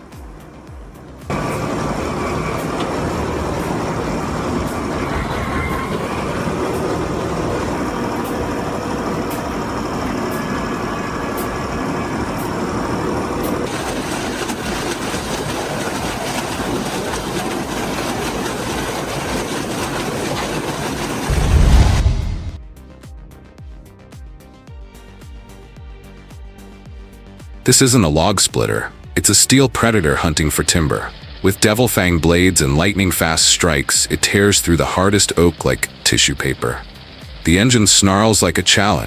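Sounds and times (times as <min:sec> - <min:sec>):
heavy machinery engine running: 0:00.0 - 0:22.6, 0:27.7 - 0:39.0.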